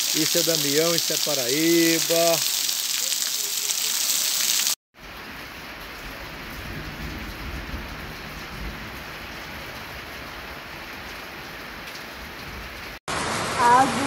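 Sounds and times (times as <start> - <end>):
rain falling on a car: 0.0 - 14.0.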